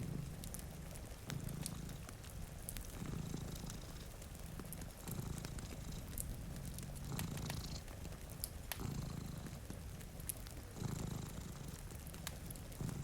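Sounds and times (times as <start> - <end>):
cat purring: 0.0 - 13.0
wood fire crackling: 0.0 - 13.0.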